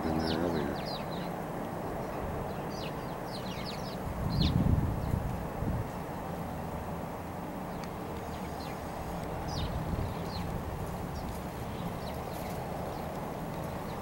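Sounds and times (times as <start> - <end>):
small birds chirping: 0.0 - 6.5, 7.6 - 14.0
low outdoor rumble: 0.0 - 14.0.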